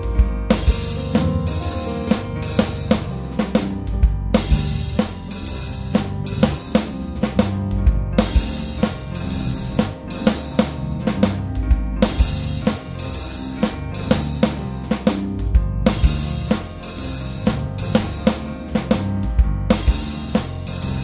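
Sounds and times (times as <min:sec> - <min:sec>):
drum kit beat: 0:00.0 - 0:21.0
low bass line: 0:00.0 - 0:21.0.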